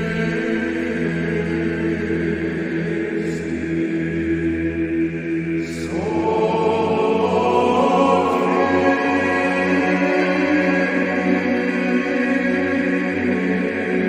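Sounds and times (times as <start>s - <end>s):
choir chanting with low drone: 0.0s - 14.0s.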